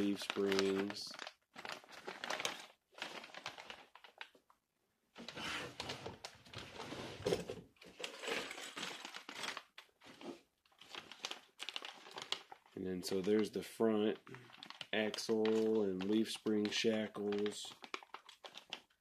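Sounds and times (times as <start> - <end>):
plastic bags crinkling: 0.0 - 4.5, 5.2 - 19.0.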